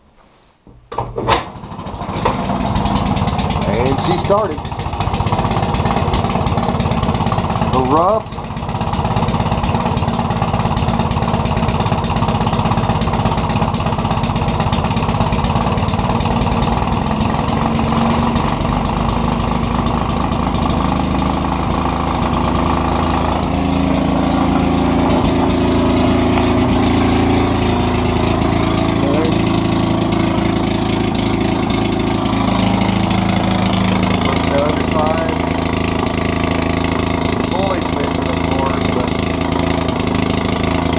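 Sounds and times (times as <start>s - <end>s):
two-stroke engine running: 1.3s - 40.9s.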